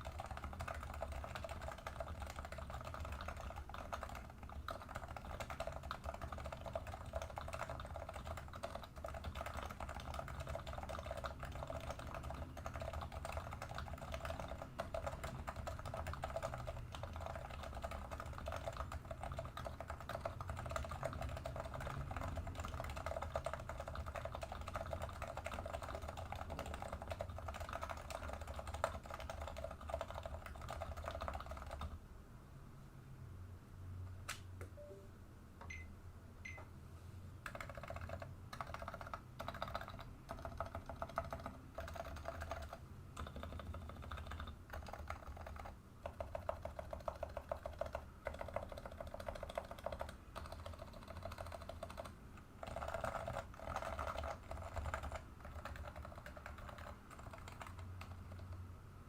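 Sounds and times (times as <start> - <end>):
fast muted keyboard typing: 0.0 - 32.0, 37.4 - 58.7.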